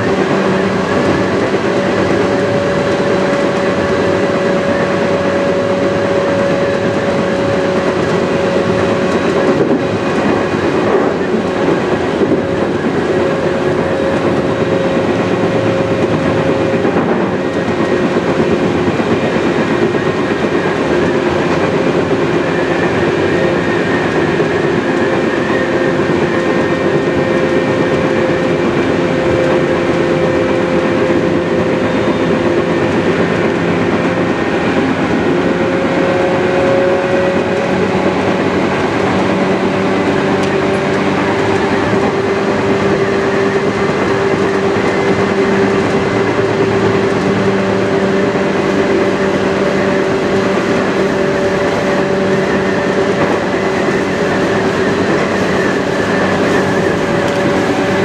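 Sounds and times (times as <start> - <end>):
clickety-clack of track joints: 0.0 - 58.0
electric train motor whine: 0.0 - 58.0
rail and wheel rumble: 0.0 - 58.0.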